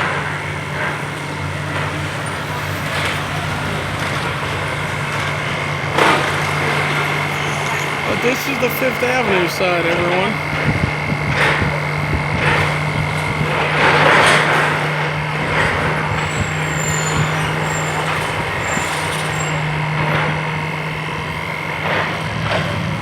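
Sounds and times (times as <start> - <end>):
diesel engine running: 0.0 - 23.0
street traffic: 0.0 - 23.0.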